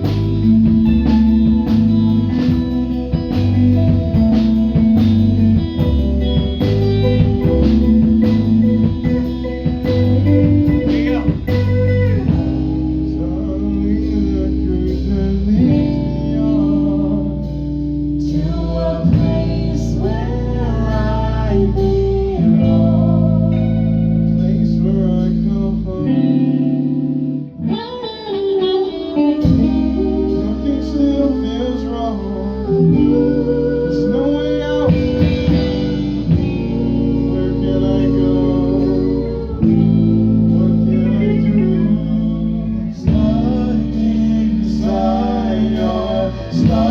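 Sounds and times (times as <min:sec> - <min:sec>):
bass line: 0:00.0 - 0:46.9
electric guitar: 0:00.0 - 0:46.9.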